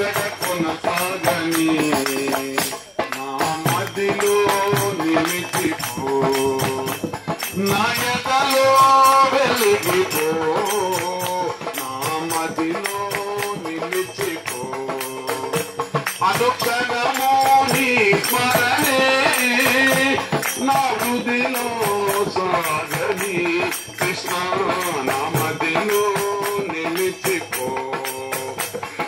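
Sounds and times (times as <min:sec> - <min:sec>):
jingling hand percussion: 0:00.0 - 0:29.0.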